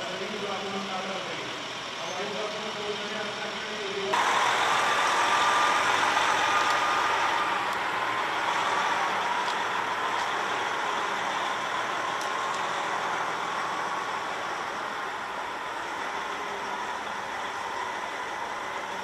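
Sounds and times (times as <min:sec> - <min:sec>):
truck engine and tyre noise: 0:00.0 - 0:19.0.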